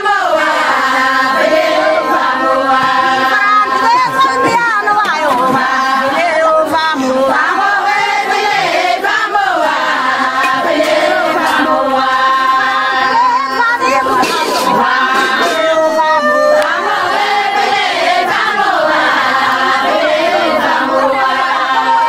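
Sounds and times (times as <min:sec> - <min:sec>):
group of voices singing: 0:00.0 - 0:22.0.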